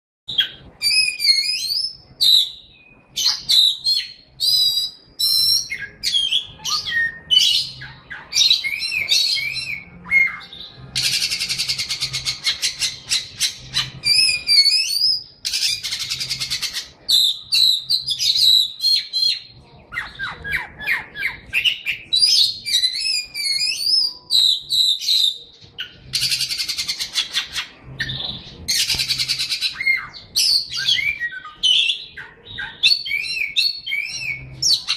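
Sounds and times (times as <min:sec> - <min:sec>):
songbird singing: 0:00.3 - 0:34.9.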